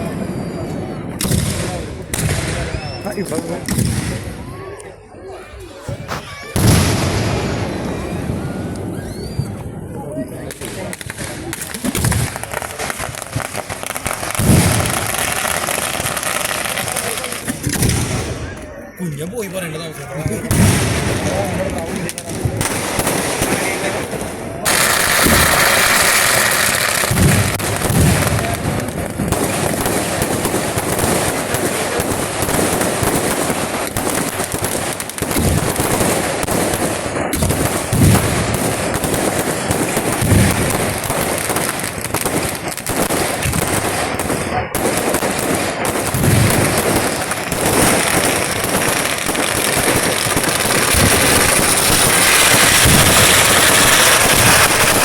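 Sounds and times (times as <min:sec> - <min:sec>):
firework booms: 0:00.0 - 0:04.8, 0:05.8 - 0:18.6, 0:20.2 - 0:55.0
rapid firecracker bangs: 0:01.0 - 0:04.6, 0:05.8 - 0:09.7, 0:10.4 - 0:18.6, 0:20.3 - 0:55.0.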